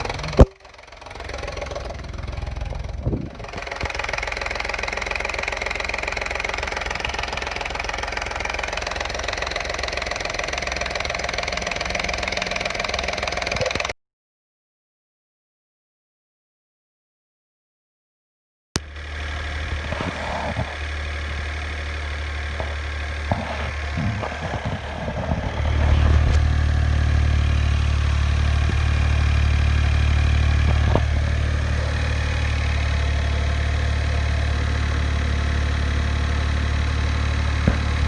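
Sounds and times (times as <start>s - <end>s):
car engine idling and revving: 0.0s - 14.0s, 18.8s - 38.0s.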